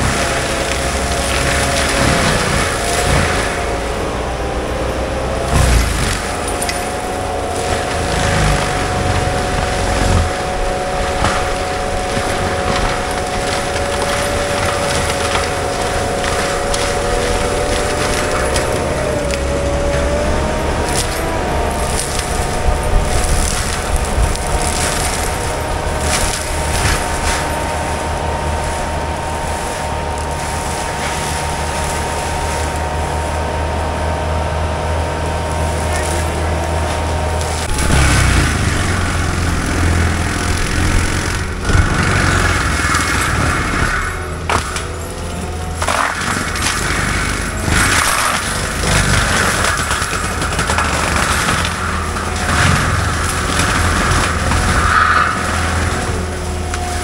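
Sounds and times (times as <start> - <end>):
loader engine rumble: 0.0 - 57.0
mulcher drum whine: 0.0 - 57.0.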